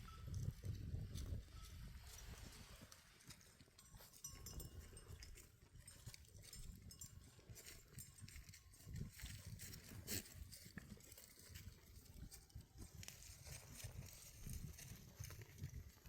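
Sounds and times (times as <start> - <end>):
livestock moving about: 0.0 - 16.0.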